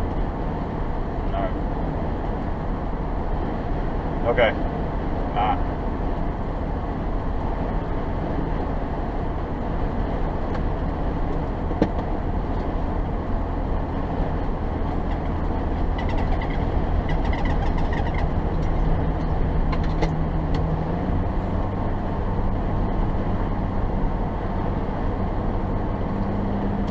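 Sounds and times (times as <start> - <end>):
car engine hum: 0.0 - 26.9.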